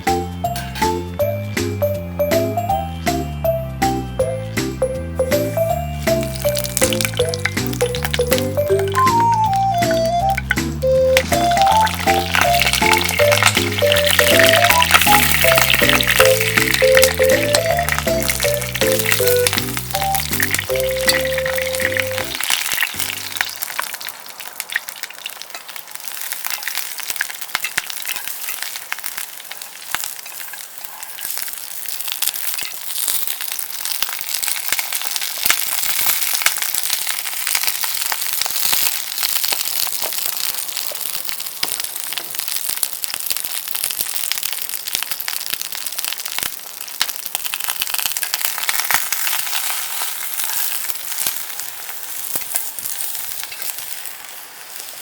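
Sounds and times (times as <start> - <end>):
food sizzling in a pan: 5.3 - 55.0.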